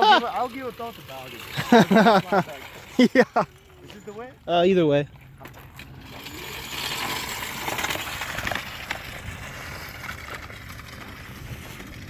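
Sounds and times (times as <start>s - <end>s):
tyres crackling over loose ground: 0.0s - 12.0s.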